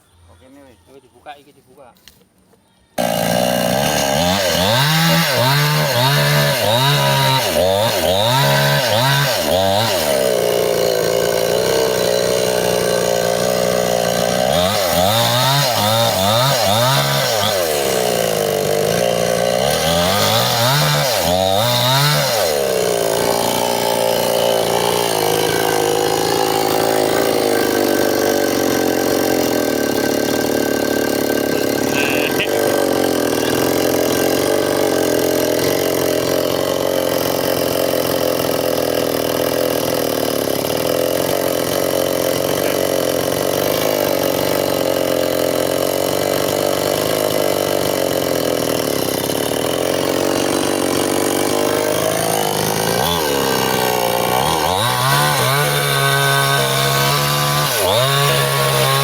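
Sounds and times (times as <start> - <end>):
chainsaw cutting wood: 3.0 - 59.0.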